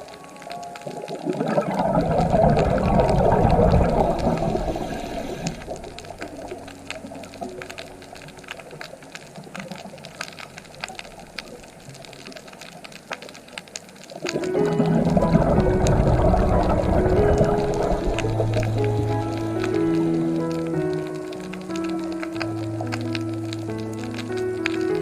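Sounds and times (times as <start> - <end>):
faint music notes: 0.0 - 11.5, 14.2 - 25.0
rushing bubbling water: 0.0 - 25.0.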